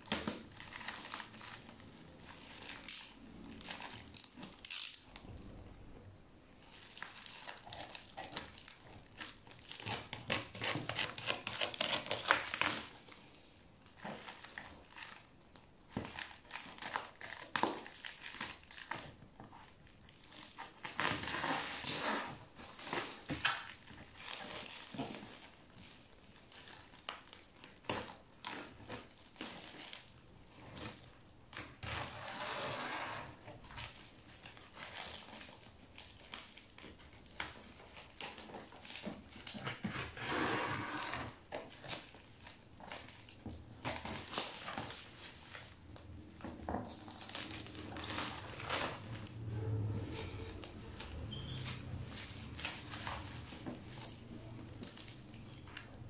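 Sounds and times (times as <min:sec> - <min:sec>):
plastic wrapping crinkling: 0:00.0 - 0:56.0.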